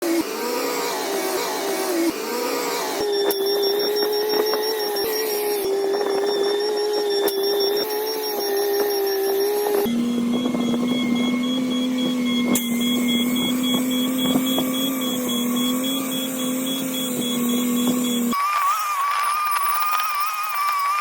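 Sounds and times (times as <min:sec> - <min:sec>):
engine running: 0:00.0 - 0:18.4.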